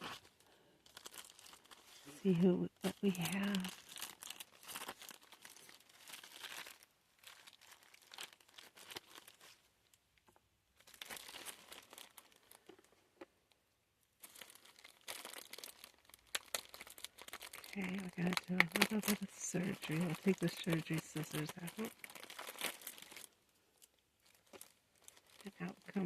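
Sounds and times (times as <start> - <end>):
packaging crinkling and tearing: 0.0 - 2.2, 2.8 - 10.0, 10.8 - 12.9, 14.2 - 26.0.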